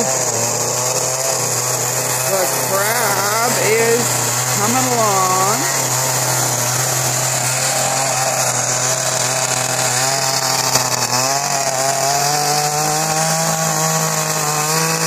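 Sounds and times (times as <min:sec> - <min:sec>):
chainsaw carving wood: 0:00.0 - 0:15.0.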